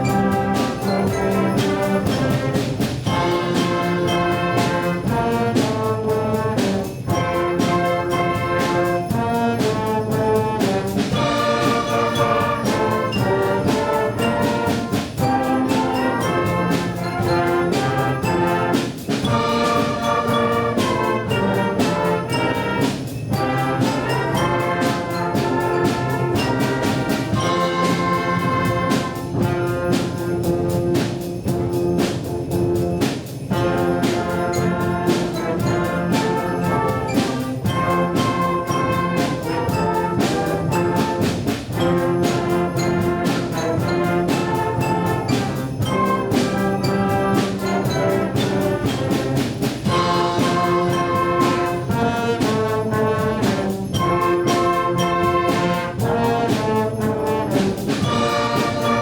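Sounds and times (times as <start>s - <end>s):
brass band playing: 0.0s - 59.0s
percussion beat: 0.0s - 59.0s.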